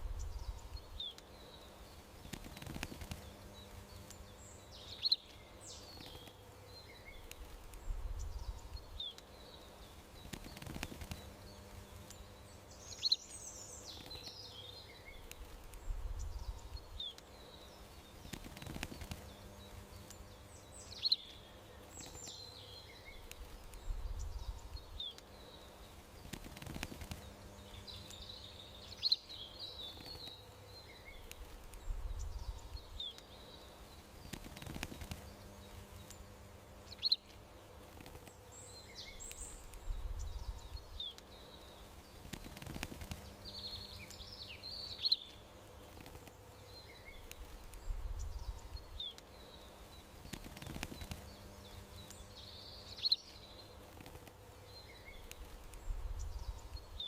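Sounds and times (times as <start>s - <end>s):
faint low rumble: 0.0s - 57.0s
small birds chirping: 0.0s - 57.0s.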